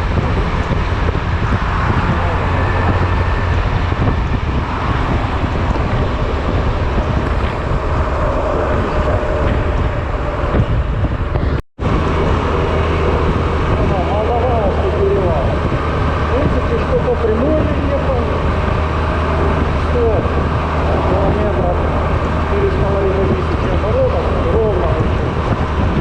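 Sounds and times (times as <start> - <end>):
road rumble: 0.0 - 26.0
scooter engine: 0.0 - 26.0
wind buffeting microphone: 0.0 - 26.0.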